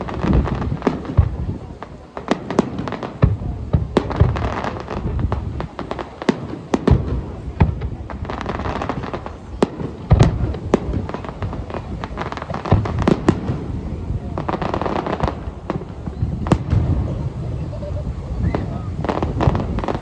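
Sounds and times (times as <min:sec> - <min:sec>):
fireworks cracks and bangs: 0:00.0 - 0:20.0
low firework booms: 0:00.0 - 0:20.0.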